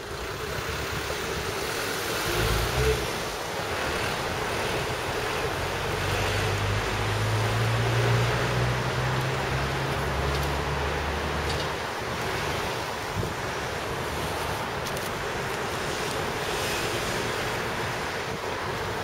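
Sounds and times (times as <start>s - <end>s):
low engine hum: 0.0s - 16.3s
city traffic noise: 0.0s - 19.0s.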